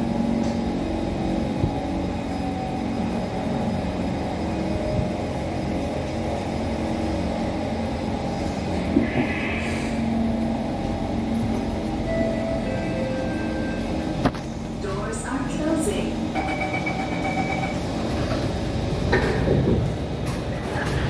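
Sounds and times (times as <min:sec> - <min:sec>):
low rumble of train car: 0:00.0 - 0:21.0.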